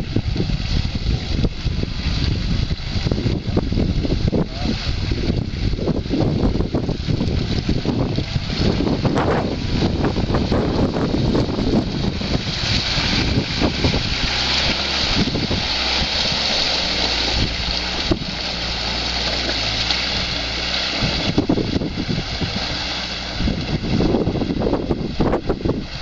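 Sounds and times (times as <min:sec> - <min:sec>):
knocks and rumbles from rough ride: 0:00.0 - 0:26.0
off-road vehicle engine: 0:00.0 - 0:26.0.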